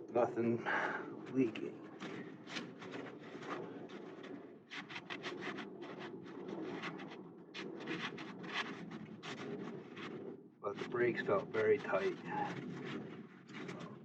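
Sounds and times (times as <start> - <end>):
cloth rubbing and scraping: 1.5 - 14.0.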